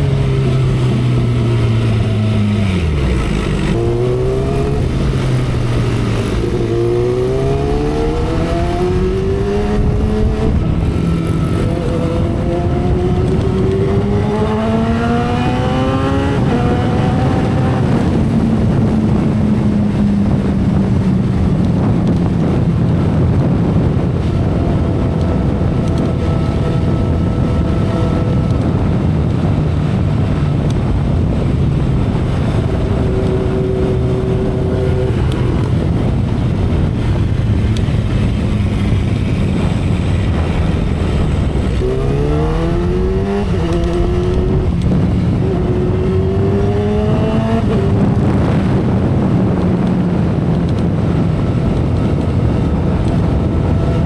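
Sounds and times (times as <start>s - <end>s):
motorcycle engine at speed: 0.0s - 54.0s
wind rush: 0.0s - 54.0s.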